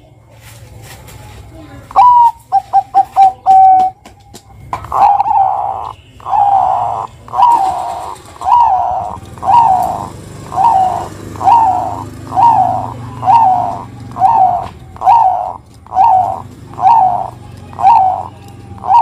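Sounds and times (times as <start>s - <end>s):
dove cooing: 1.9s - 4.0s, 4.7s - 19.0s.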